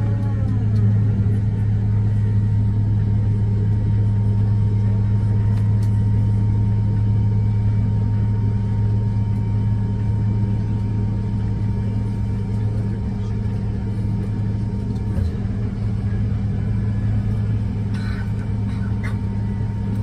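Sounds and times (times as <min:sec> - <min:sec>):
airliner cabin hum: 0:00.0 - 0:20.0.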